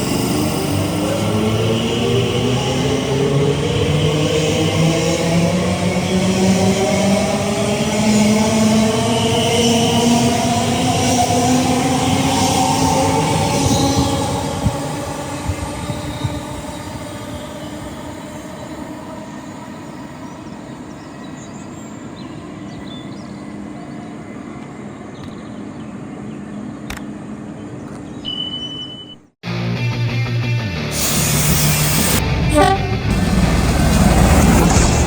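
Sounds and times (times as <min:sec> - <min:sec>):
passenger train rumbling past: 0:00.0 - 0:27.9, 0:30.8 - 0:35.0.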